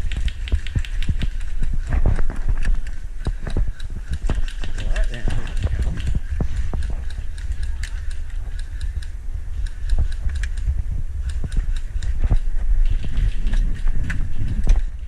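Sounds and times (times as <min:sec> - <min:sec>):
low microphone rumble: 0:00.0 - 0:15.0.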